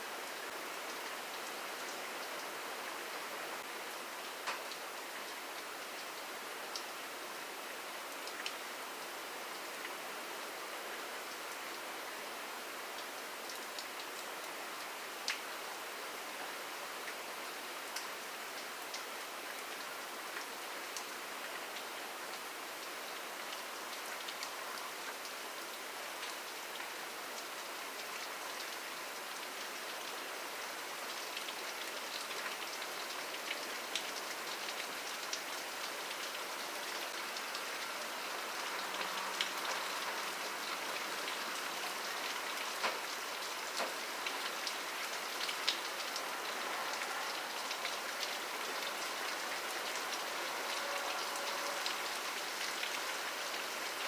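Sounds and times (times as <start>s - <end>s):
rain drops pattering: 0.0s - 54.0s.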